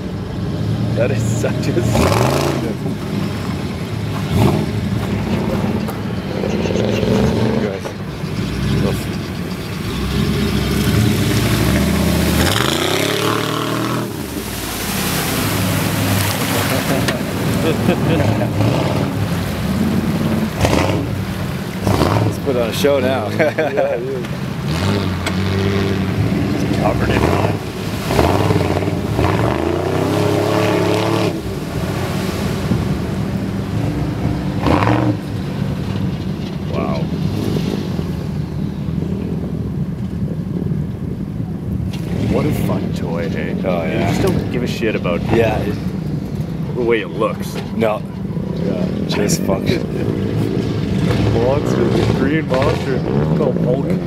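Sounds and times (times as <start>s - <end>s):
truck engine revving: 0.0s - 38.5s, 41.9s - 54.0s
truck churning through mud: 0.0s - 39.5s, 41.8s - 54.0s.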